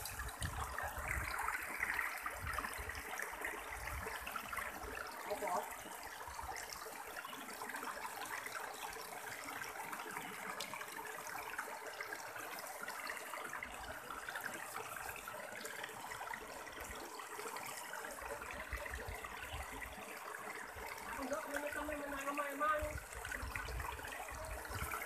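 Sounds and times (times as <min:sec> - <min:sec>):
stream water trickling over boulders: 0:00.0 - 0:25.0.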